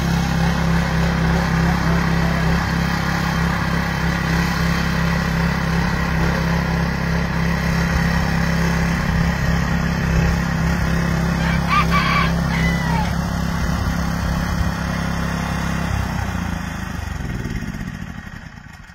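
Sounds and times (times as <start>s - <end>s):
garden tiller engine running: 0.0s - 18.9s.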